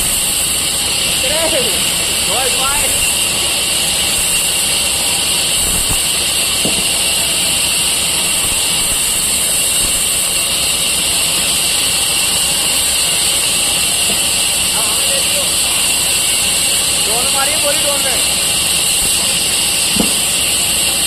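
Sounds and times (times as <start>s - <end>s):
machine whirring with hiss: 0.0s - 21.0s.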